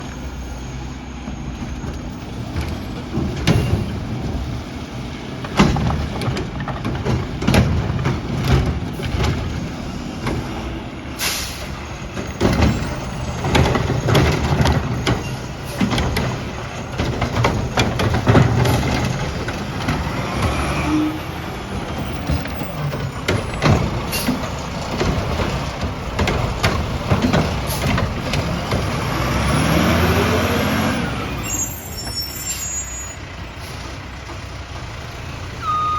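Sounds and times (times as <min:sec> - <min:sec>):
diesel engine running: 0:00.0 - 0:35.9
knocks and clanks: 0:01.2 - 0:31.6.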